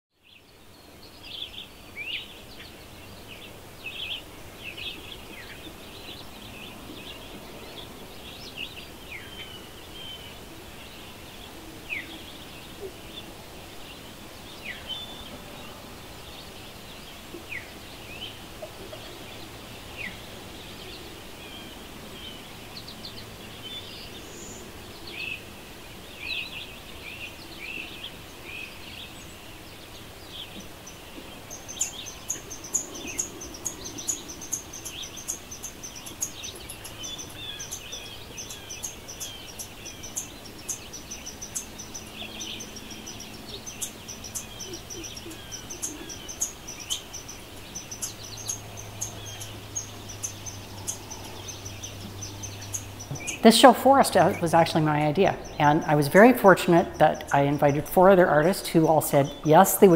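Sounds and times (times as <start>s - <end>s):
songbirds chirping and singing: 0.2s - 59.9s.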